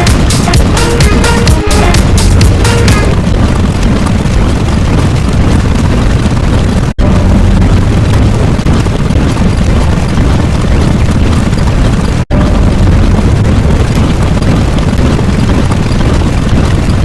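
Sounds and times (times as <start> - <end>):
explosion-like rumble: 2.0 - 17.0.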